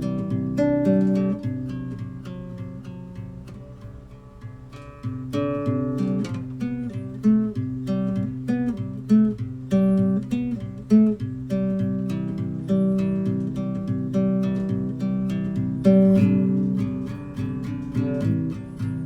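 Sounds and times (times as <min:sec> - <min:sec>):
picked guitar-like music: 0:00.0 - 0:19.0.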